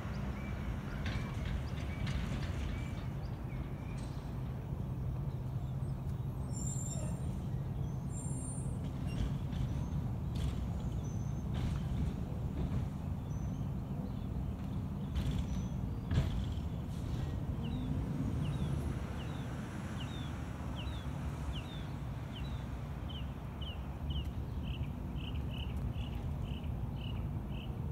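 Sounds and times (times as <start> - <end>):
distant truck diesel engine: 0.0 - 27.7.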